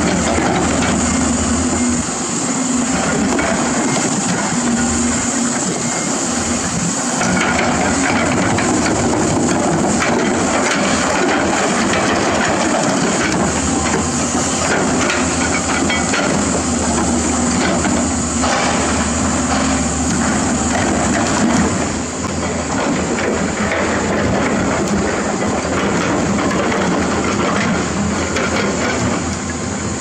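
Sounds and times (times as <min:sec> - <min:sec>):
excavator diesel engine: 0:00.0 - 0:30.0.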